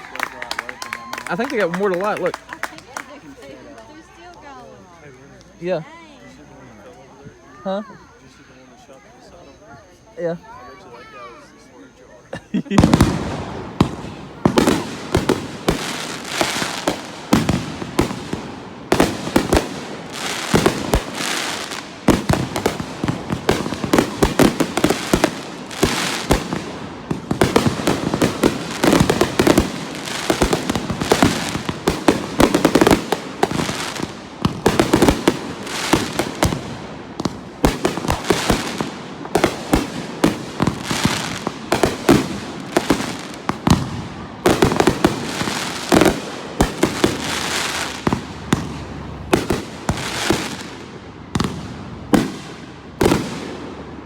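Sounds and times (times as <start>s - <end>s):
fireworks bangs and crackling: 0.0s - 5.9s, 12.4s - 54.0s.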